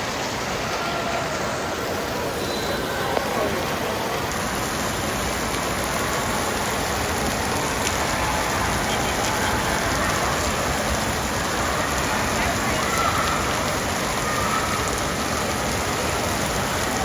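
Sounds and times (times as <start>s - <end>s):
distant voices: 0.0s - 17.0s
splashing and falling water: 0.0s - 17.0s.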